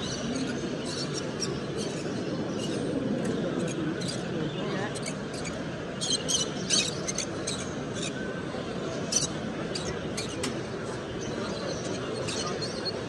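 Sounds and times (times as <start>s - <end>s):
cage birds chirping: 0.0s - 8.2s, 9.0s - 13.0s
low hall background noise: 0.0s - 13.0s.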